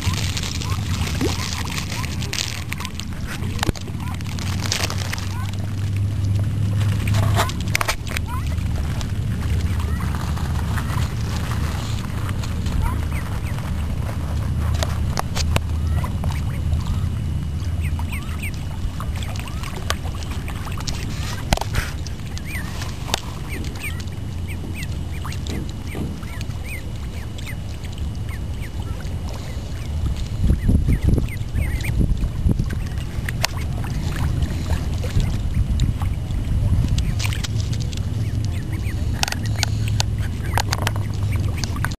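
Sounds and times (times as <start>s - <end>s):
ducklings peeping: 0.0s - 41.9s
low rumble: 0.0s - 41.9s.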